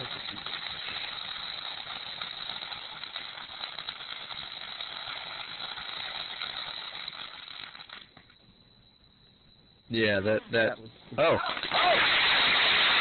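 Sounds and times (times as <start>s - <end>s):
firework fountain hissing: 0.0s - 8.8s, 10.2s - 13.0s
faint crackle: 0.0s - 9.4s, 10.9s - 13.0s.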